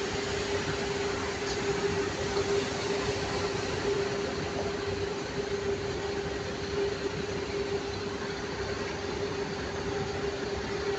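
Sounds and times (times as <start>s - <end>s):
steady hum: 0.0s - 10.9s.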